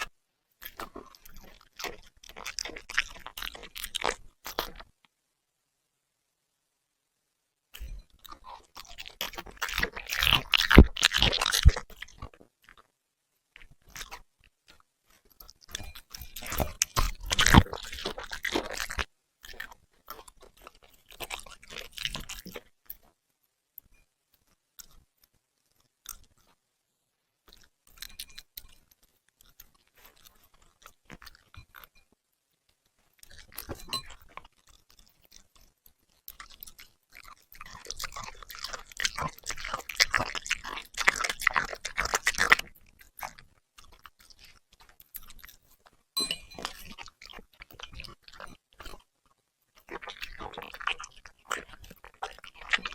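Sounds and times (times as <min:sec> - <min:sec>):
puppy chewing food: 0:00.0 - 0:04.9, 0:07.8 - 0:12.9, 0:13.5 - 0:23.2, 0:23.8 - 0:26.6, 0:27.4 - 0:52.9.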